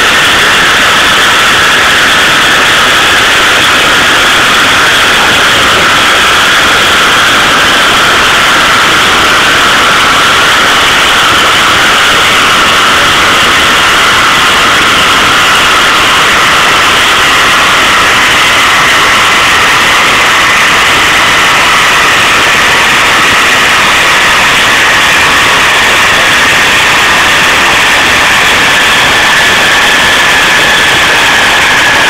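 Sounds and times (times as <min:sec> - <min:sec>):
dynamometer mechanical rush: 0:00.0 - 0:32.0.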